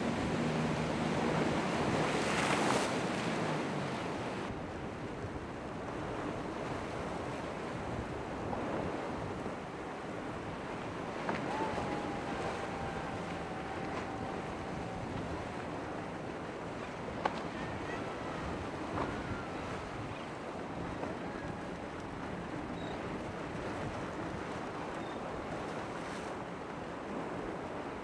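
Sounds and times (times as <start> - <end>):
boat engine droning: 0.0 - 5.0, 7.2 - 26.0
wind buffeting microphone: 0.0 - 25.8
waves breaking: 0.0 - 28.0.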